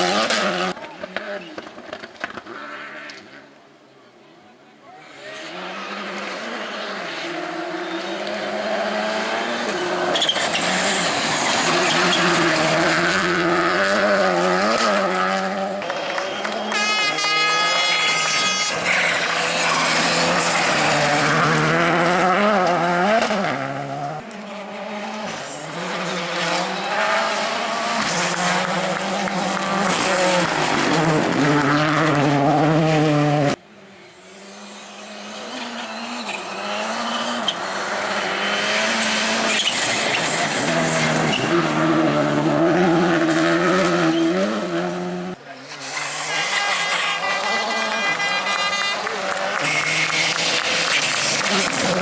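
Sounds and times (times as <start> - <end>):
rally car engines revving: 0.0 - 3.5, 5.0 - 52.0
approaching car: 4.8 - 52.0.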